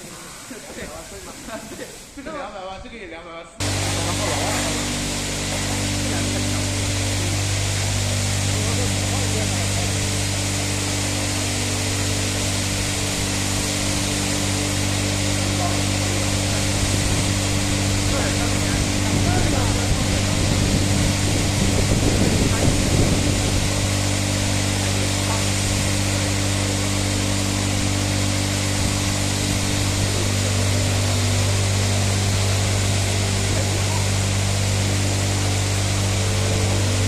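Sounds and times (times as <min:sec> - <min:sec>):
constant hiss: 0:00.0 - 0:37.0
low mechanical motor hum: 0:03.6 - 0:37.0.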